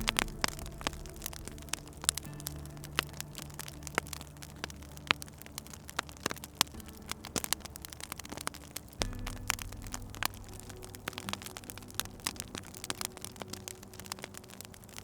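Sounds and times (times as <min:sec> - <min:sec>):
low steady hum: 0:00.0 - 0:15.0
wood fire crackling and popping: 0:00.0 - 0:15.0.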